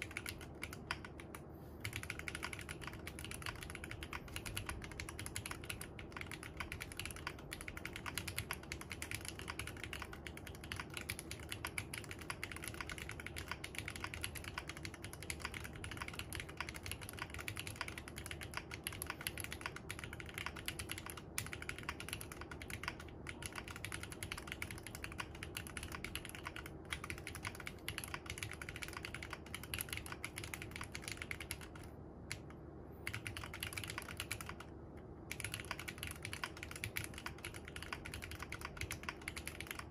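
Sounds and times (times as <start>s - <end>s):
mechanical keyboard typing: 0.0s - 34.7s, 35.3s - 39.9s.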